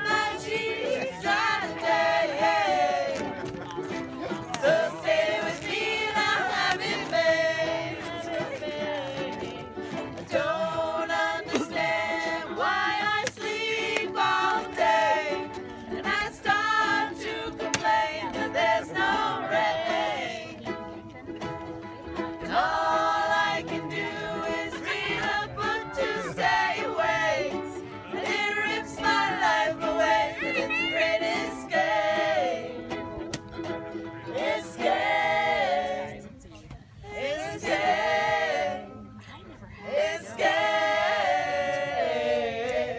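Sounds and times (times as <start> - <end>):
strummed ukulele: 0.0 - 36.4, 37.2 - 38.9.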